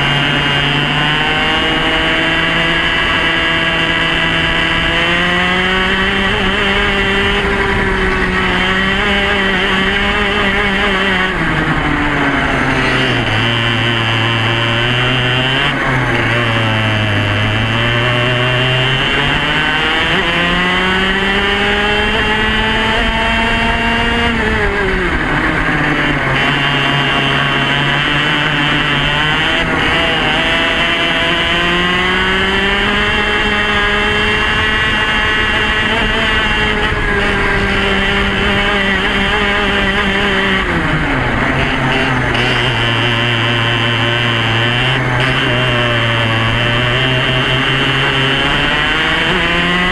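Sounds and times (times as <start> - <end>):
kart engine revving: 0.0 - 49.9.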